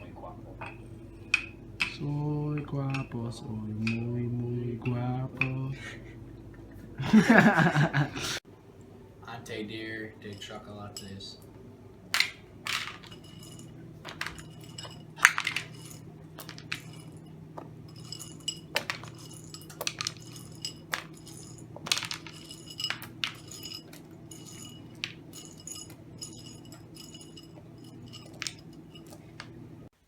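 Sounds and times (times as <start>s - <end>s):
utensils and dishes clinking: 0.0s - 5.8s, 10.2s - 11.4s, 12.2s - 29.9s
steady low hum: 0.0s - 30.0s.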